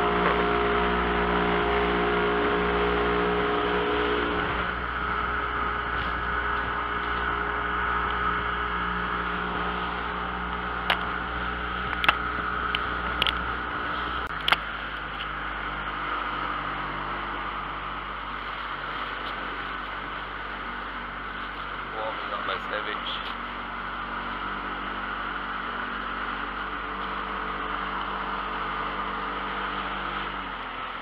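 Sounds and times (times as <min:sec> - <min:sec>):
boat engine running: 0:00.0 - 0:31.0
wind and water hiss: 0:00.0 - 0:31.0.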